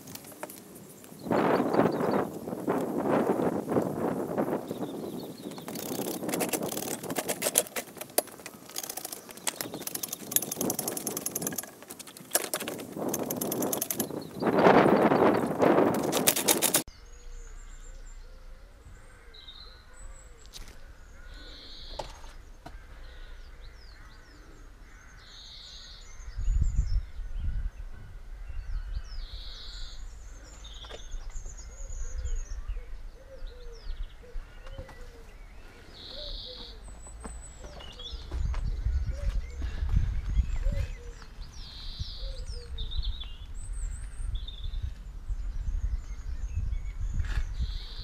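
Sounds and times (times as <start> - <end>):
wild birds chirping: 0.0 - 48.0.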